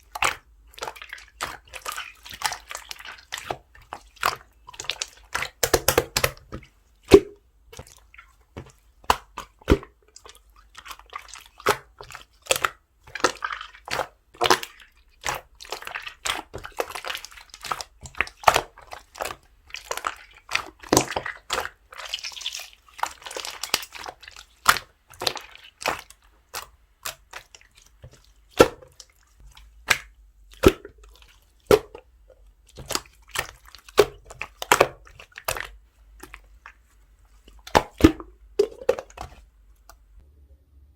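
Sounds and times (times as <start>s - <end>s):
slime squelching and popping: 0.0s - 40.2s.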